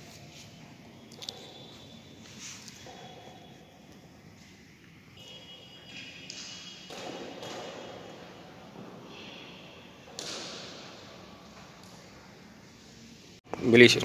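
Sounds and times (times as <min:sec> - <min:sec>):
knocks echoing in a hall: 0:00.8 - 0:14.0.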